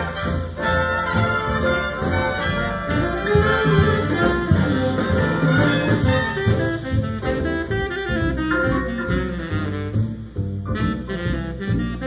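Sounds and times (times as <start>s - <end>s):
big band jazz through speakers: 0.0s - 12.0s.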